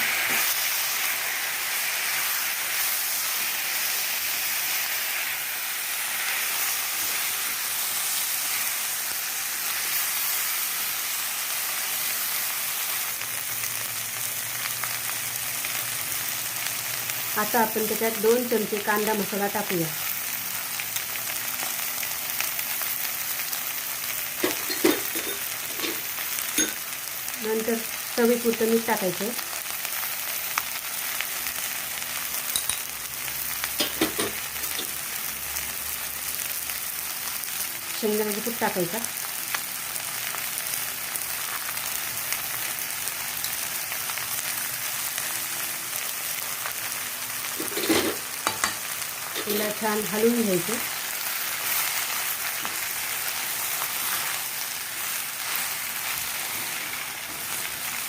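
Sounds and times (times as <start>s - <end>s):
okra sizzling in oil: 0.0s - 58.0s.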